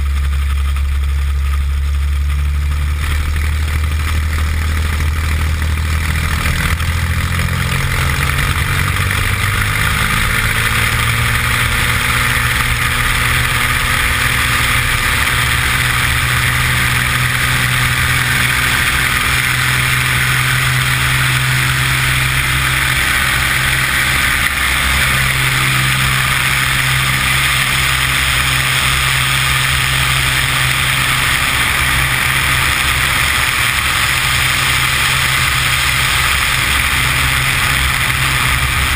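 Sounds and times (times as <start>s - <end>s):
propeller plane engine at full power: 0.0s - 38.9s.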